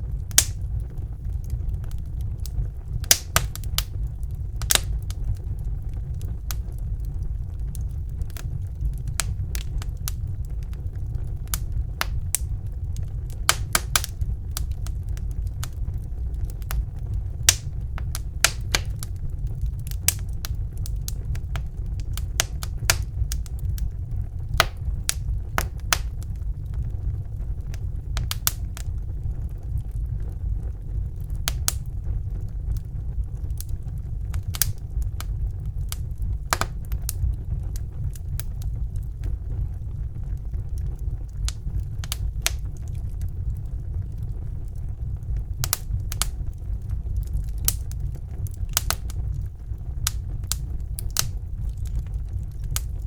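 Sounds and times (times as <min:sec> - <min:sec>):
fire flames rumbling: 0:00.0 - 0:53.0
wood fire crackling: 0:00.0 - 0:53.0.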